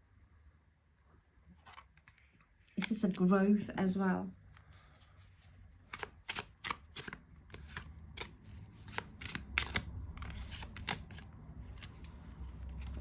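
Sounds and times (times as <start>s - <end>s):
cards being shuffled: 1.6s - 3.7s, 4.6s - 13.0s.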